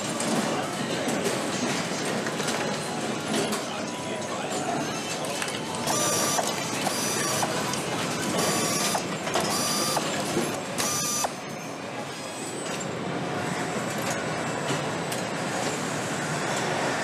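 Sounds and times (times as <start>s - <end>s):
factory hum: 0.0s - 17.0s.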